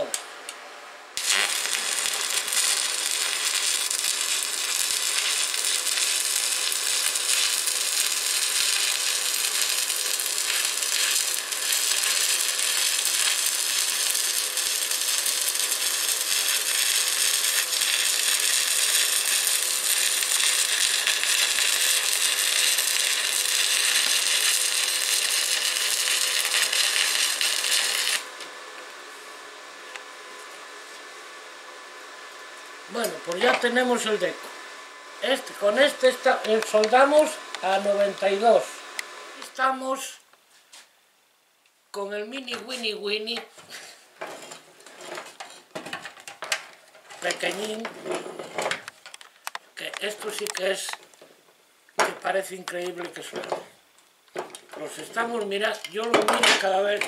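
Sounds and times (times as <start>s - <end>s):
arc welding crackle: 0.0s - 0.3s, 1.2s - 40.4s, 44.2s - 57.0s.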